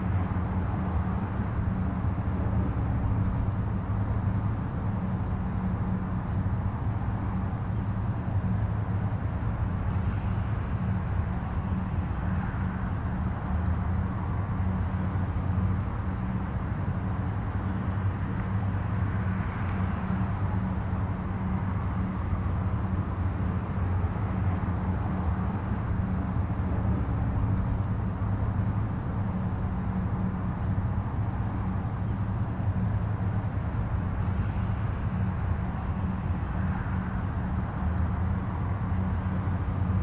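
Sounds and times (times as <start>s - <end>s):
distant highway traffic: 0.0s - 40.0s.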